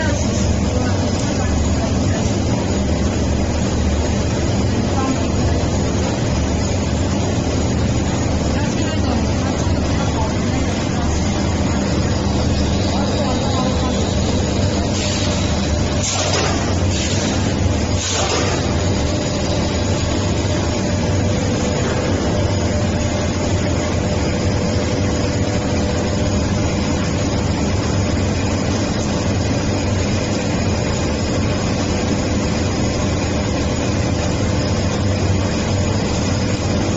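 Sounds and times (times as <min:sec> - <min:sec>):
mid-pitched machine whine: 0:00.0 - 0:36.9
motor hum: 0:00.0 - 0:36.9.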